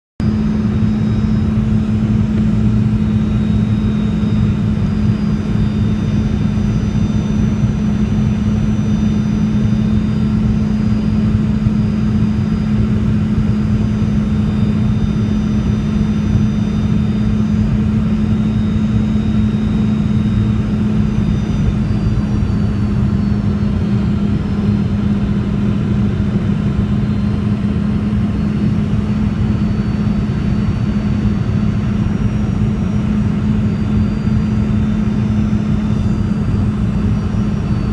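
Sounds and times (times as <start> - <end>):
aircraft cabin rumble: 0.2 - 37.9
faint high engine whines: 0.2 - 37.9.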